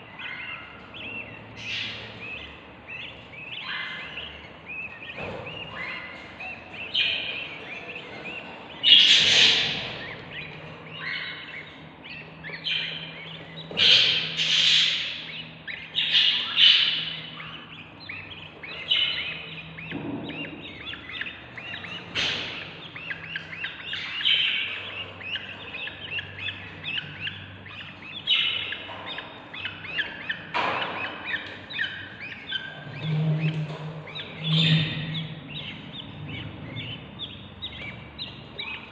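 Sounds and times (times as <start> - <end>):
chicks chirping raspy begging calls: 0.0 - 38.9.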